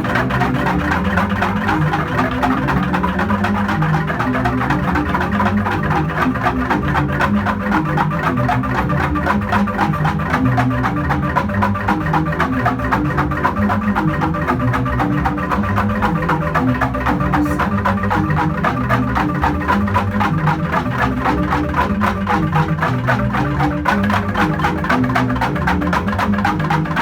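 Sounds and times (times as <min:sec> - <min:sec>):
deep bamboo bass notes: 0:00.0 - 0:27.0
mallet strikes on bamboo tubes: 0:00.0 - 0:27.0.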